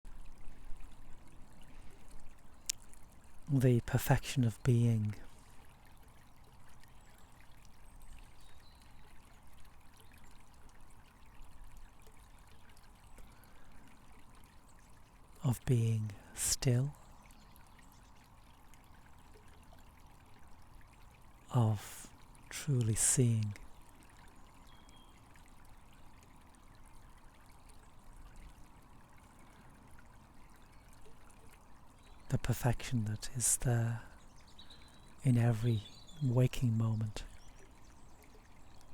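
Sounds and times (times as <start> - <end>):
trickle of stream water: 0.1 - 38.9.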